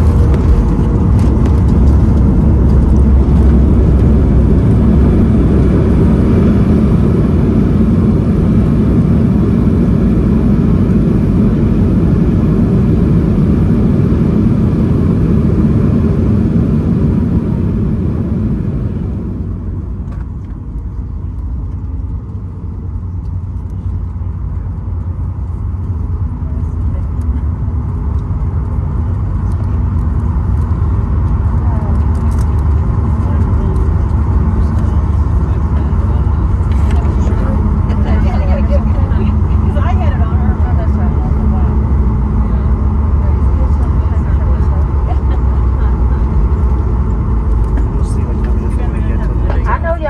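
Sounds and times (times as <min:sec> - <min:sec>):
airliner cabin roar: 0:00.0 - 0:50.0.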